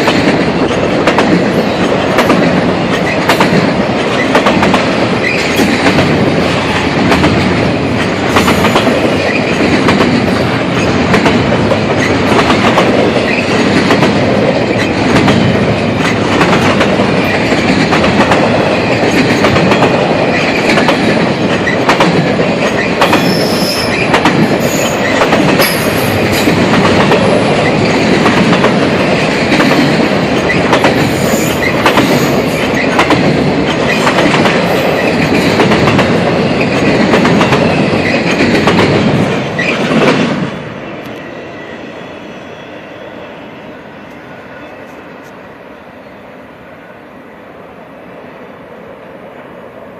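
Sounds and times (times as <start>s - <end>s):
freight train wheels rumbling on rail: 0.0s - 49.9s.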